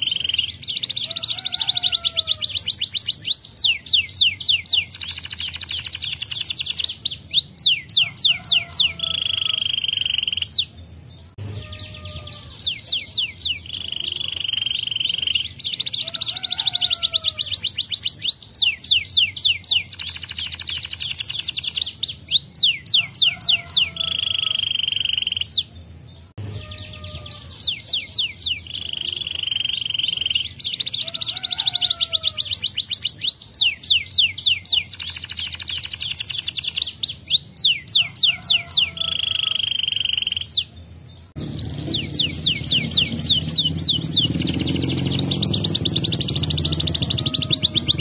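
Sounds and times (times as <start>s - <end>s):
canary singing trills: 0.0s - 48.0s.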